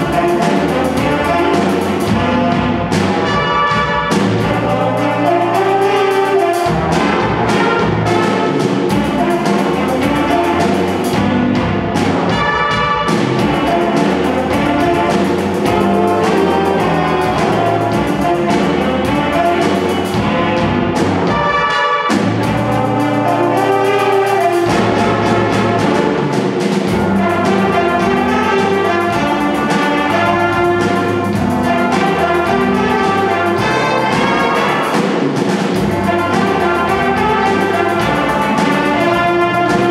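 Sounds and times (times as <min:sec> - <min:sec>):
saxophone section: 0:00.0 - 0:11.6, 0:12.3 - 0:26.4, 0:27.0 - 0:39.9
drum kit: 0:00.0 - 0:39.9
trombones: 0:00.0 - 0:39.9
trumpets: 0:00.0 - 0:39.9.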